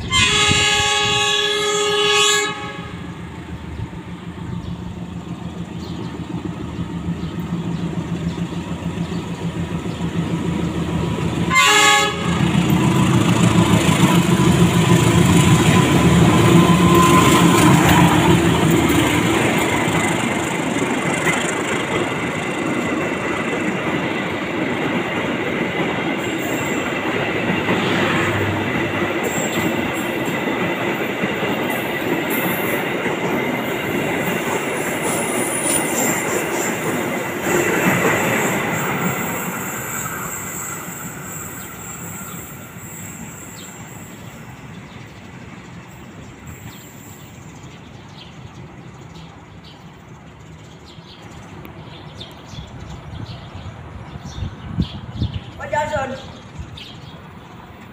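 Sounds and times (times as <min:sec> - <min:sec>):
diesel locomotive passing: 0:00.0 - 0:57.9.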